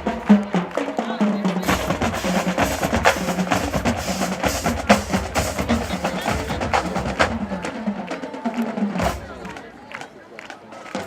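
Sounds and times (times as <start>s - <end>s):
marching drumline playing: 0.0s - 11.0s.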